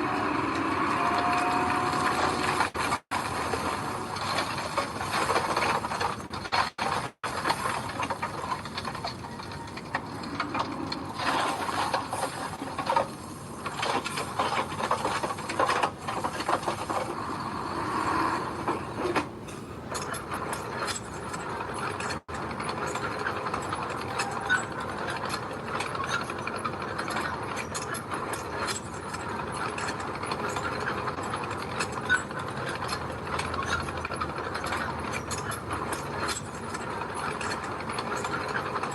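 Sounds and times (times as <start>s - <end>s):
bulldozer engine running: 0.0s - 38.9s
bulldozer tracks clattering: 0.0s - 38.9s.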